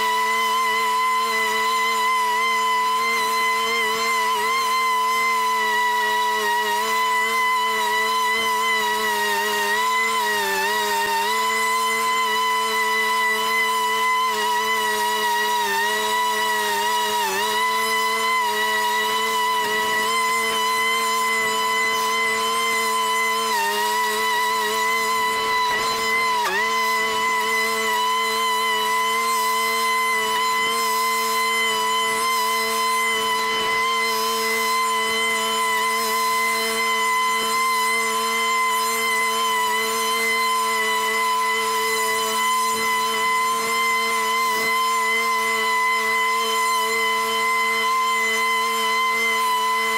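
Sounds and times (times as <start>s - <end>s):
riding mower engine cutting grass: 0.0s - 49.9s.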